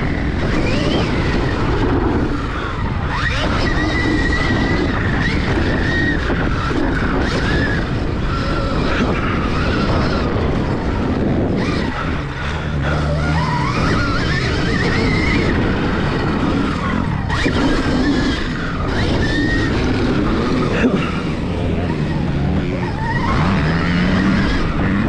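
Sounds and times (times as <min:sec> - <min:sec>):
motocross bike engine revving: 0:00.0 - 0:25.0
wind on microphone: 0:00.0 - 0:25.0.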